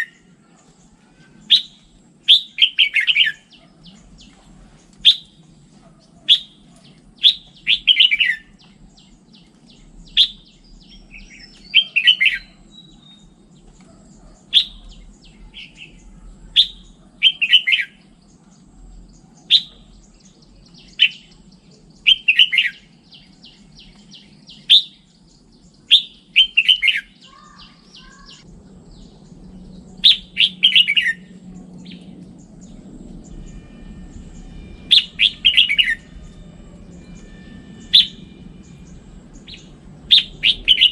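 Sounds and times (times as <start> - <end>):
faint low hum: 0.0 - 26.0, 27.2 - 40.9
bird singing whistled notes: 1.3 - 5.4, 6.2 - 40.9.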